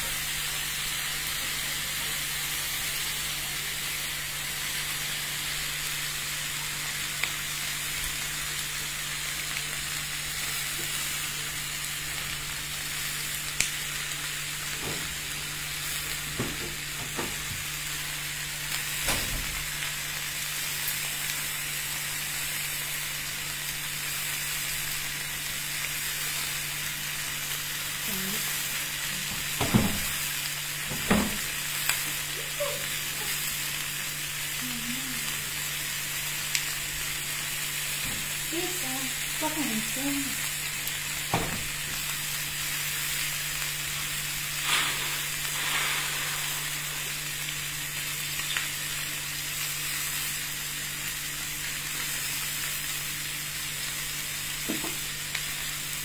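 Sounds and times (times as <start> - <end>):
steaks sizzling in a grill pan: 0.0 - 56.0.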